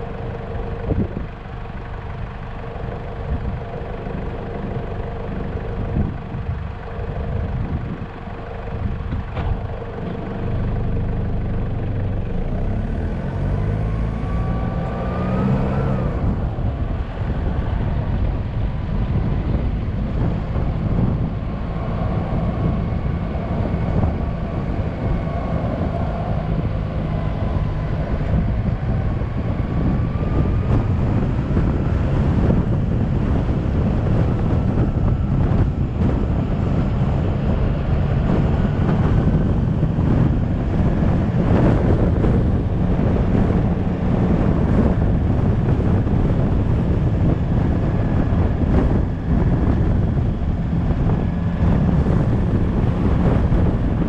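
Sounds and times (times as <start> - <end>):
car engine: 0.0 - 54.0
tyres on paved road: 0.0 - 54.0.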